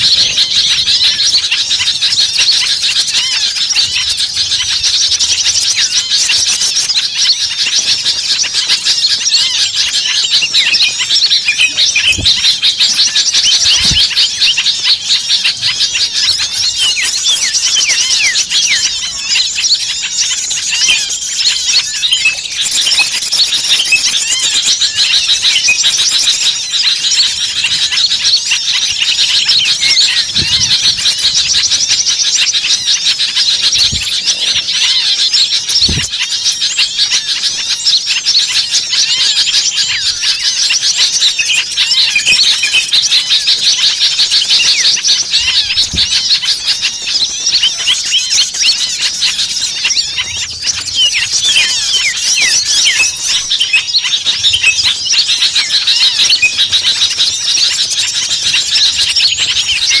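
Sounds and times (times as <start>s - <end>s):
small songbirds chirping chorus: 0.0s - 60.0s.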